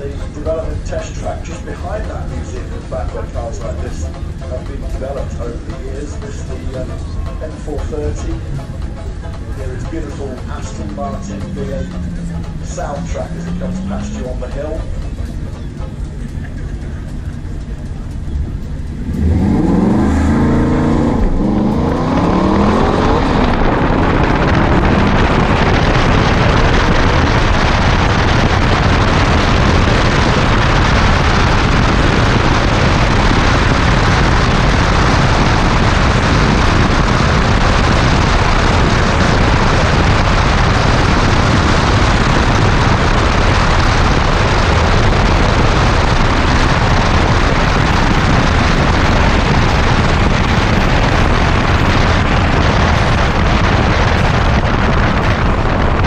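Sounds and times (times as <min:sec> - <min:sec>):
car engine accelerating hard: 0:00.0 - 0:56.0
rush of wind and road noise: 0:00.0 - 0:56.0.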